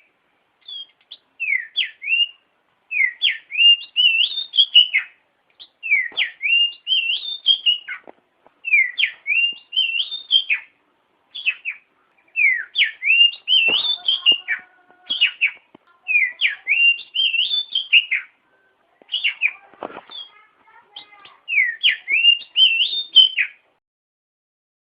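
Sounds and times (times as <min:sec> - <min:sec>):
magpie-robin singing whistled phrases: 0:00.0 - 0:23.6.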